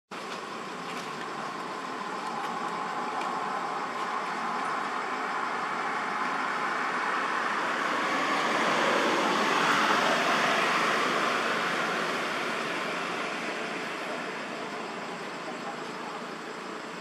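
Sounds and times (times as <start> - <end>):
road traffic rushing: 0.2 - 17.0.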